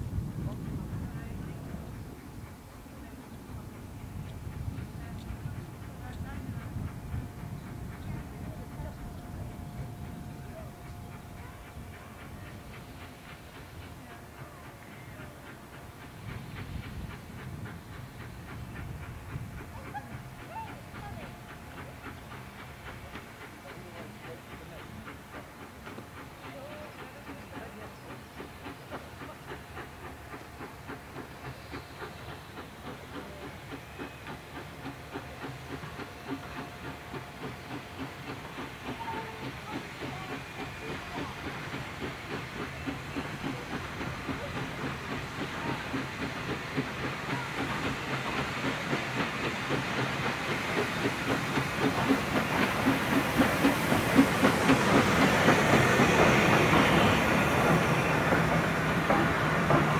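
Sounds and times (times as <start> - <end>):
steam hiss: 0.0 - 59.9
steam locomotive exhaust beat: 0.0 - 59.9
train wheels clattering on rails: 0.0 - 59.9.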